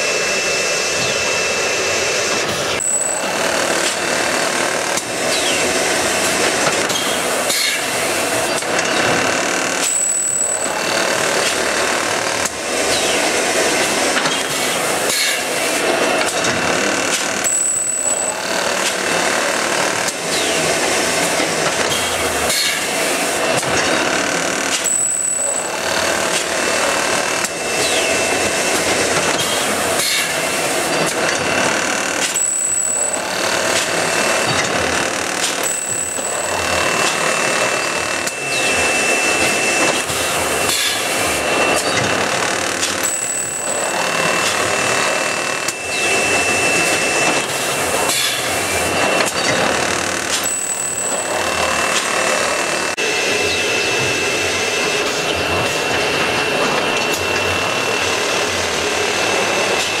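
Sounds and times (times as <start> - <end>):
machinery running with high whine: 0.0 - 60.0.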